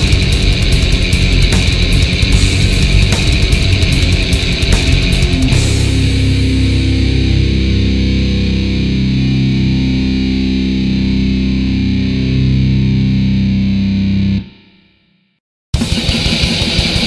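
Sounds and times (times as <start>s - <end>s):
fast distorted guitar: 0.0s - 15.1s, 15.8s - 17.0s
distorted electric guitar drone: 0.0s - 15.2s, 15.8s - 17.0s.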